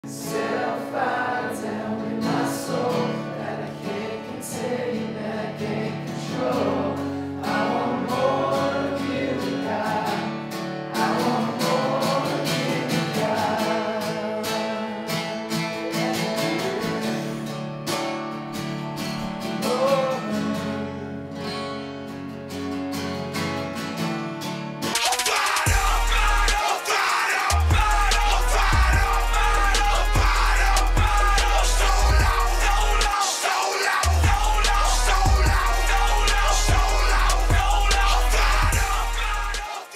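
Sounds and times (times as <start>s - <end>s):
person singing worship song: 0.0s - 17.7s, 19.5s - 21.2s, 25.0s - 39.9s
acoustic guitar: 0.0s - 39.9s.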